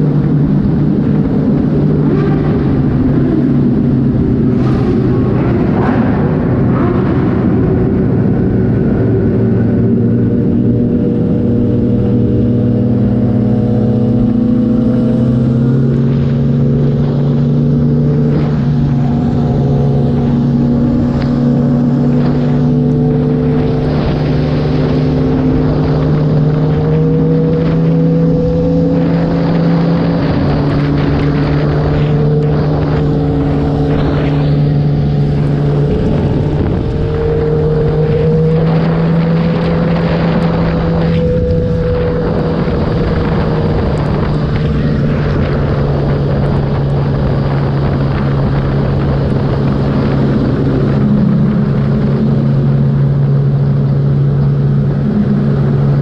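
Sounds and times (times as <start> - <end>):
motorcycle engine cruising: 0.0 - 56.0
wet road noise: 0.0 - 56.0
wind rush: 0.0 - 56.0.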